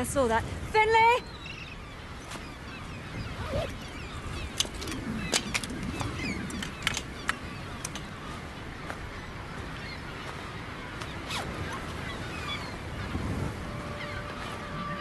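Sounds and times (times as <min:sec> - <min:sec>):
seabirds crying: 0:00.9 - 0:15.0.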